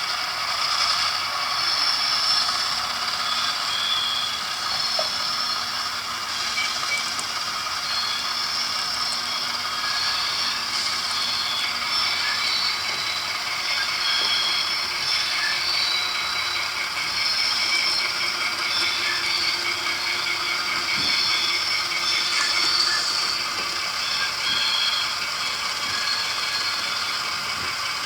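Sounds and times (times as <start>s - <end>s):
model train whir and gear rattle: 0.0s - 28.0s.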